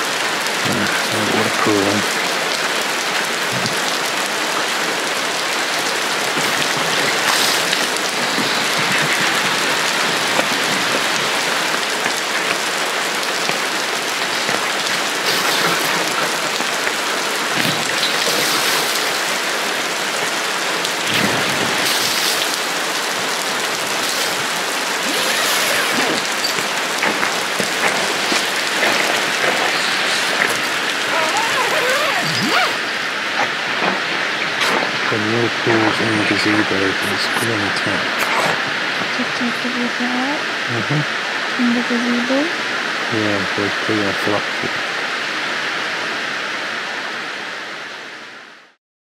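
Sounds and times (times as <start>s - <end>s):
steady rain falling: 0.0s - 48.8s.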